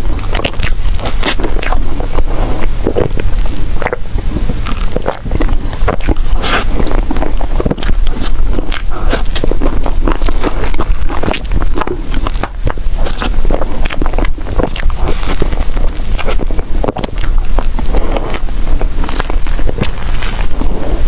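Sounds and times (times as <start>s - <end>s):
person chewing: 0.0s - 21.0s
steady low rumble: 0.0s - 21.0s.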